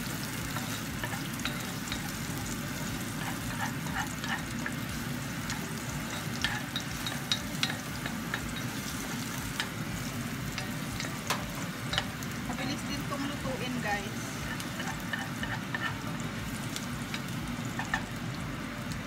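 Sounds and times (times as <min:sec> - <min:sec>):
garlic sizzling in hot oil: 0:00.0 - 0:19.0.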